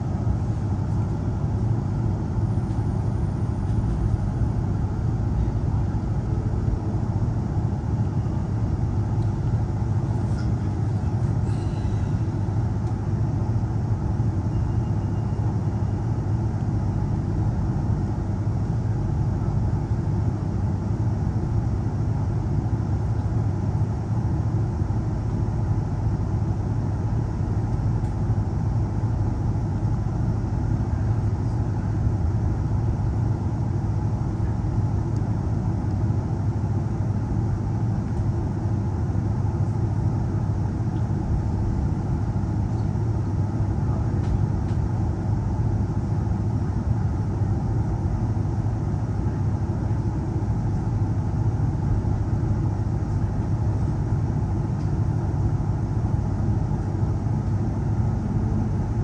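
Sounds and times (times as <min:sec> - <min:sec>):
train carriage rumbling on track: 0:00.0 - 0:59.0.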